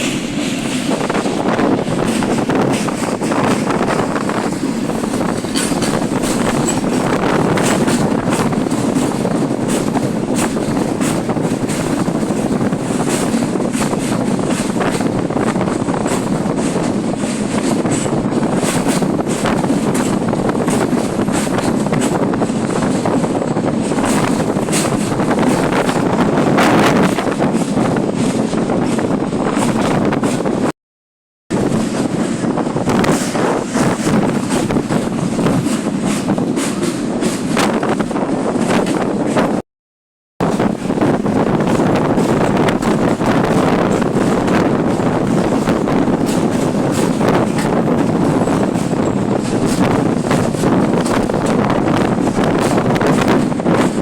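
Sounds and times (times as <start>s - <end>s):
wheels clicking on rails: 0.0s - 30.6s, 40.5s - 54.0s
wind buffeting microphone: 0.0s - 30.7s, 31.5s - 39.6s, 40.4s - 54.0s
train rumbling: 0.0s - 30.8s, 31.5s - 39.6s, 40.4s - 54.0s.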